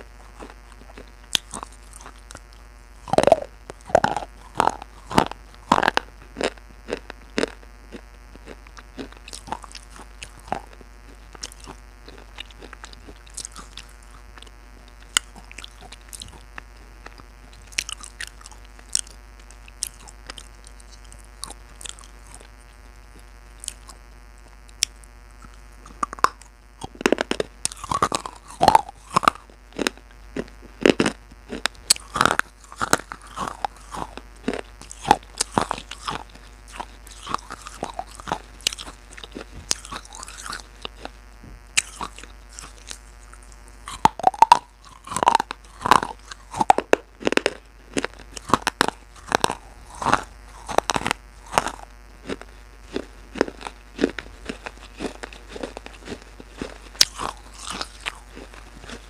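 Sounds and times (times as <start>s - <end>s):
crunching and crackling: 0.0s - 59.0s.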